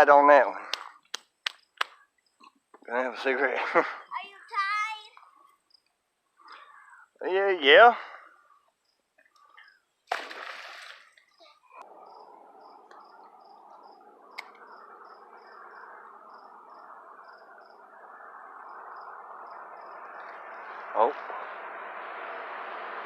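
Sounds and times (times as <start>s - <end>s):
insect chirping: 0.7s - 22.6s.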